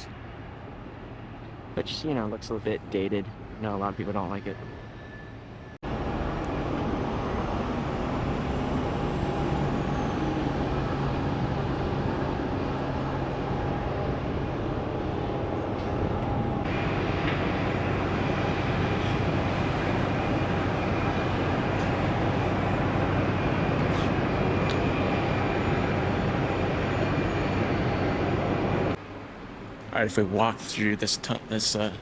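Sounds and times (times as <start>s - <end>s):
airport engine noise: 3.2s - 32.0s.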